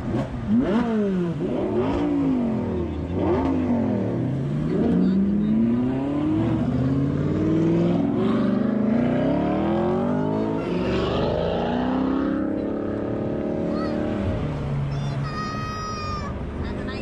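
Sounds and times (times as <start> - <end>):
cars accelerating past revving: 0.0 - 15.0.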